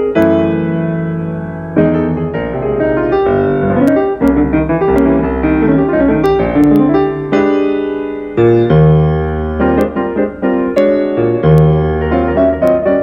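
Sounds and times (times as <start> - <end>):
solo jazz piano: 0.0 - 13.0.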